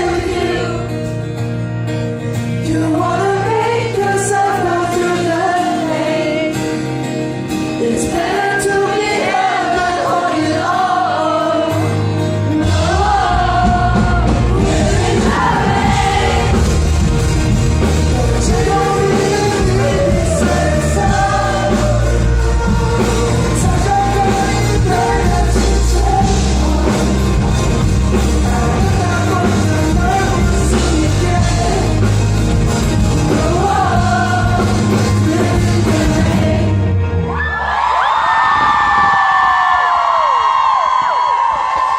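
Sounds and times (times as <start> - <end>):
lead singer singing: 0.0 - 1.6, 2.2 - 37.3
live rock band playing: 0.0 - 37.5.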